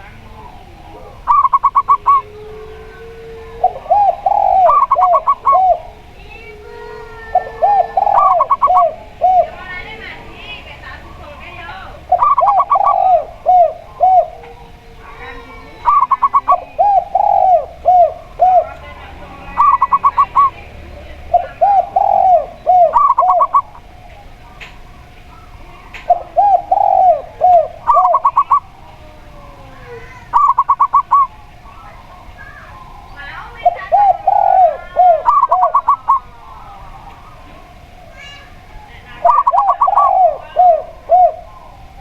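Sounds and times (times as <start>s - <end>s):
doves cooing: 0.0s - 42.0s.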